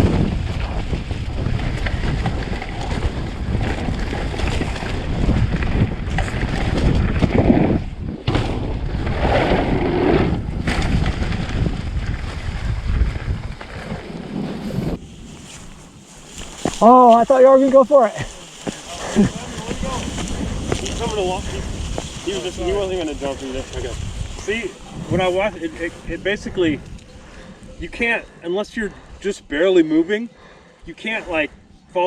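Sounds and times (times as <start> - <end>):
wind buffeting microphone: 0.0 - 29.6.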